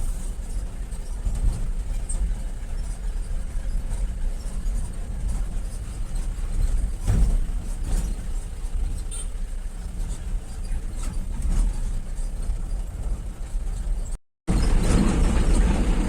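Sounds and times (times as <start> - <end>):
vehicle rumble on rough road: 0.0 - 16.0.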